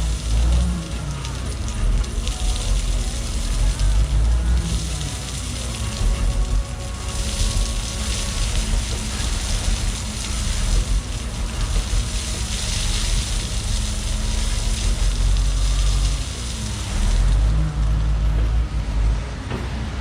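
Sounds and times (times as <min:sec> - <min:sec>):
bulldozer diesel engine under load: 0:00.0 - 0:20.0
rain hissing: 0:00.0 - 0:20.0.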